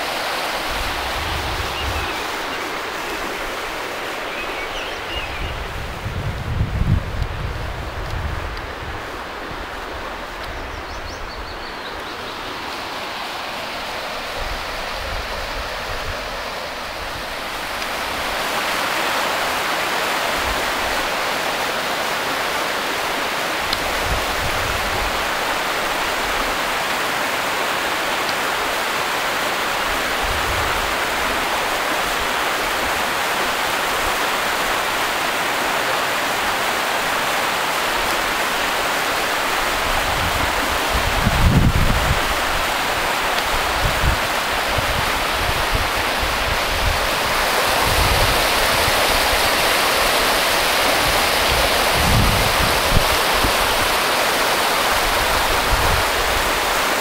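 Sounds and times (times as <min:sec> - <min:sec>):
river water rushing over stones: 0:00.0 - 0:57.0.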